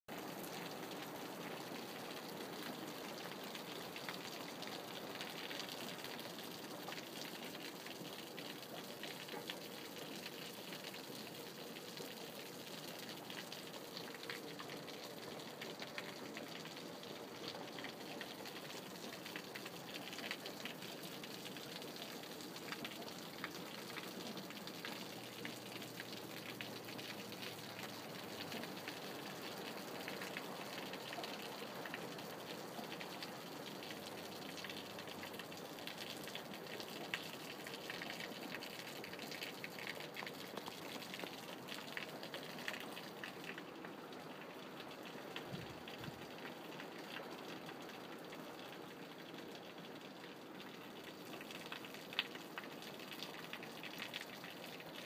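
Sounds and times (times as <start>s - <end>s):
raindrops ticking on surfaces: 0.1s - 55.0s
steady rain falling: 0.1s - 55.0s.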